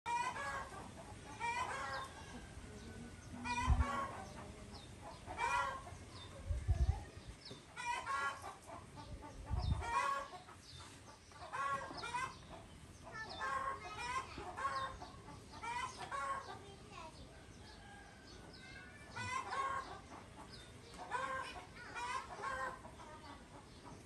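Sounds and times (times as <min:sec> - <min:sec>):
chickens clucking: 0:00.1 - 0:24.0.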